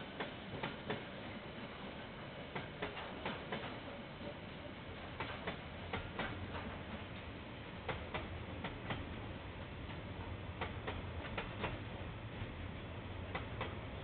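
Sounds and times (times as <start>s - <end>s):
train low rumble: 0.0s - 14.0s
train wheels clicking over joints: 0.2s - 1.2s, 2.5s - 3.8s, 5.0s - 14.0s.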